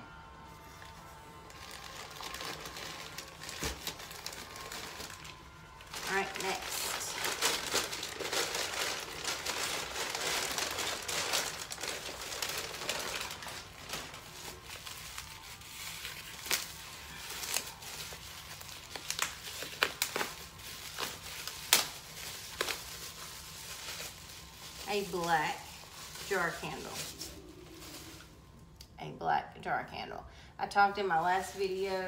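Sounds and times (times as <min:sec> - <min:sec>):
packing material crinkling: 0:00.6 - 0:28.8.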